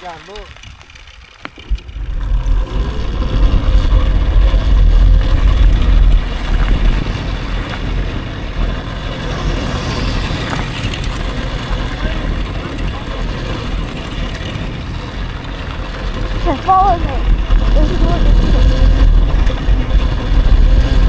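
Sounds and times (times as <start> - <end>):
low rumble of riding: 0.0 - 21.0
wind buffeting microphone: 0.0 - 21.0.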